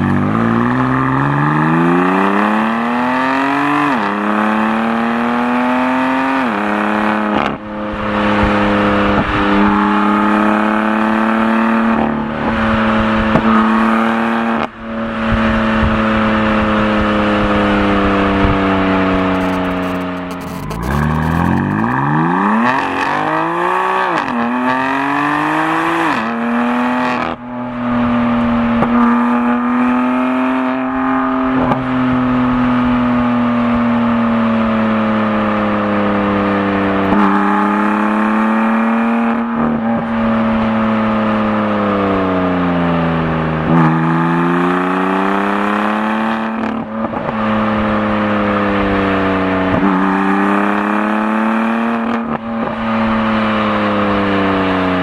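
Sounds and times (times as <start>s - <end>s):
car engine revving and shifting: 0.0s - 55.0s.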